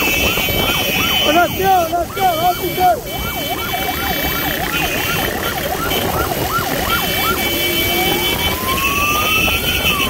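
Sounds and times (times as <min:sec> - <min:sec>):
electronic yelp siren: 0:00.0 - 0:10.0
motorcycle engine: 0:00.0 - 0:10.0
street traffic noise: 0:00.0 - 0:10.0.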